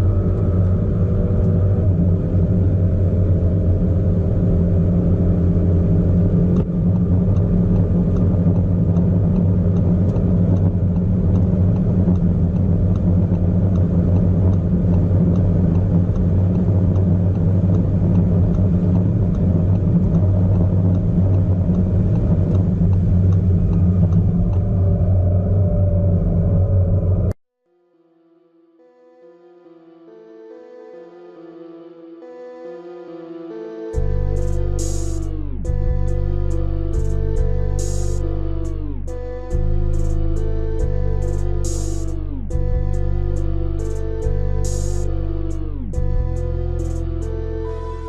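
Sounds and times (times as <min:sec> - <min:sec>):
car engine and exhaust drone: 0:00.0 - 0:27.4, 0:33.9 - 0:48.0.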